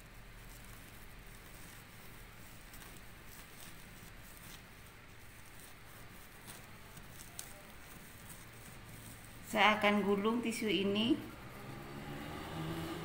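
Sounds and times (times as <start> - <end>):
paper tissue rustling: 0.0 - 13.0.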